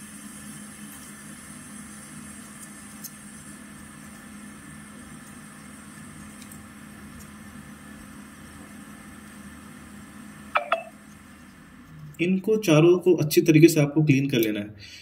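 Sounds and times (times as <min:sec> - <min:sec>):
equipment humming: 0:00.0 - 0:15.0.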